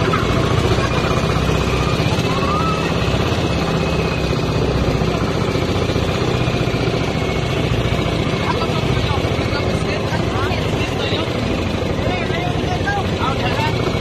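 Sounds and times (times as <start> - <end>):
boat engine chugging: 0.0 - 14.0.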